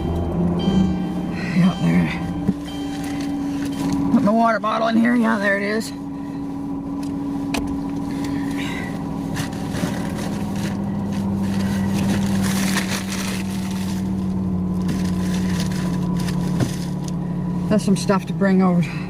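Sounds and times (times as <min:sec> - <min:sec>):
van engine idling hum: 0:00.0 - 0:19.0.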